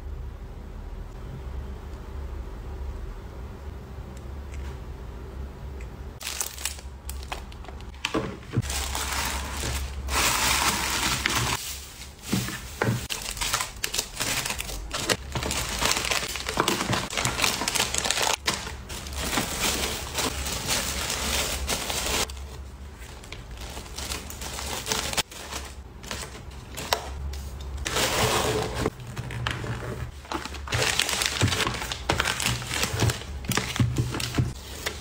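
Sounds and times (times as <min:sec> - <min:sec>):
paper crinkling and rustling: 0:06.2 - 0:35.0.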